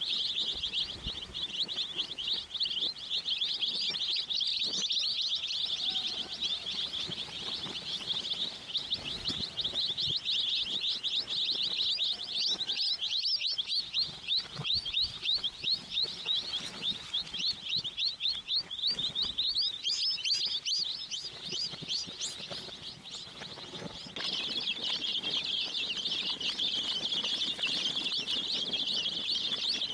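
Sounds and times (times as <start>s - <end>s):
chicks peeping: 0.0s - 29.9s.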